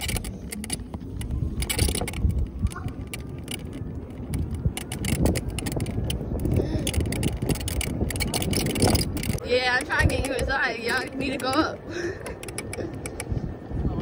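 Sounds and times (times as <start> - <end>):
bike rattling and knocking: 0.0 - 14.0
low road rumble: 0.0 - 14.0
wind buffeting microphone: 0.0 - 14.0.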